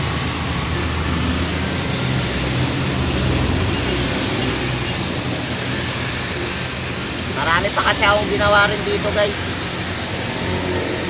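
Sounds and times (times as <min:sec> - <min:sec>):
low drone: 0:00.0 - 0:11.0.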